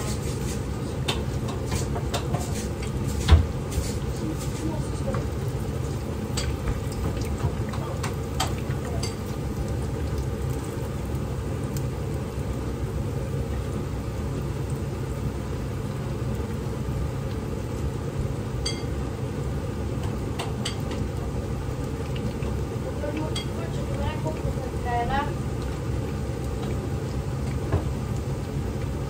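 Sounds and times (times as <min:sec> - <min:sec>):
food frying in hot oil: 0:00.0 - 0:29.0.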